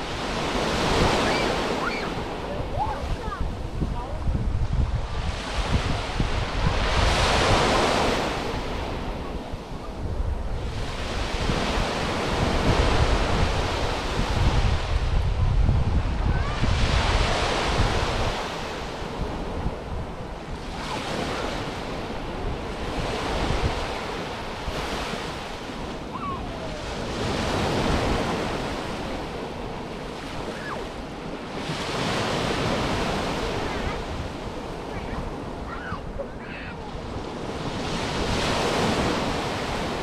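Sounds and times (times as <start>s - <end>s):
waves washing up beach: 0.0s - 40.0s
wind buffeting microphone: 0.0s - 40.0s.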